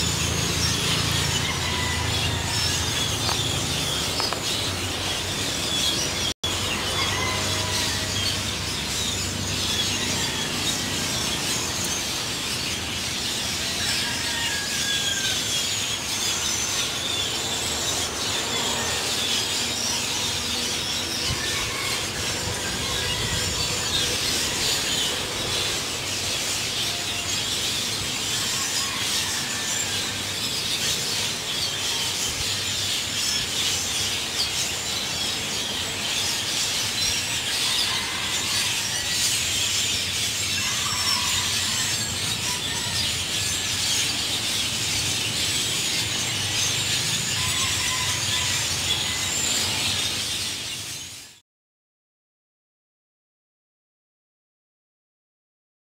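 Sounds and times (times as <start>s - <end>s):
flock of birds chirping: 0.0s - 51.4s.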